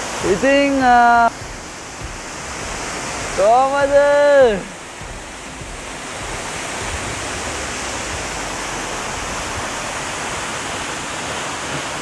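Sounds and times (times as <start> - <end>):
waterfall rushing onto rocks: 0.0 - 12.0.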